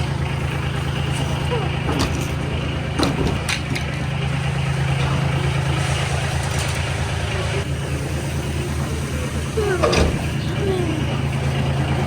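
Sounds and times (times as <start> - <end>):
farm machinery engine humming: 0.0 - 12.0.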